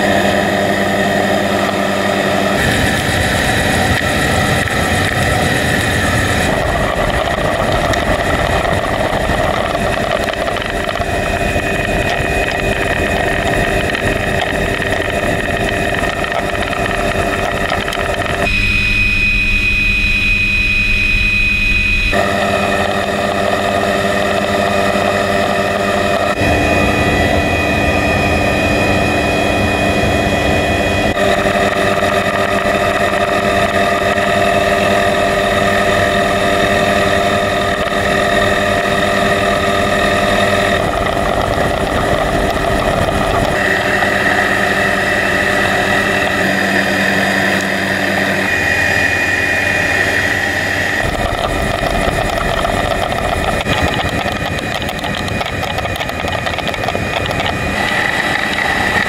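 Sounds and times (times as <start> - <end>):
helicopter turbine and rotor drone: 0.0 - 59.0.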